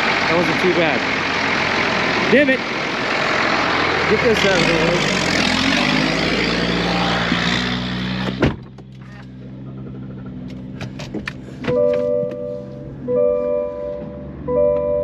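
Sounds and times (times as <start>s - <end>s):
combine harvester engine: 0.0s - 15.0s.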